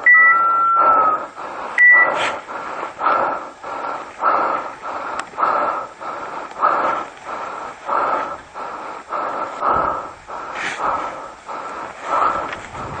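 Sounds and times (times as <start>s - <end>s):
person panting: 0.8s - 13.0s.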